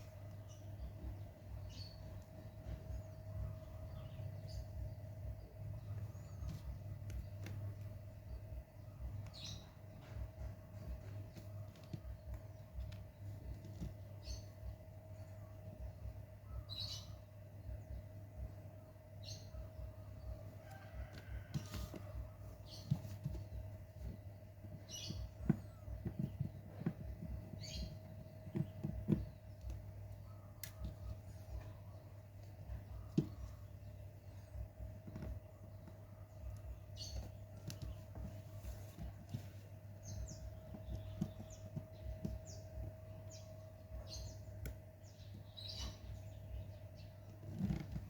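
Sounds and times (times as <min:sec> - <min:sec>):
bird chirping: 0:00.0 - 0:48.0
electrical hum: 0:00.0 - 0:48.0.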